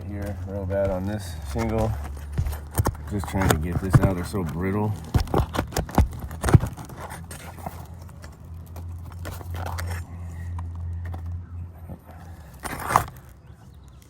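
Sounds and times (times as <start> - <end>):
shingles scraping and tearing: 0.0 - 14.0.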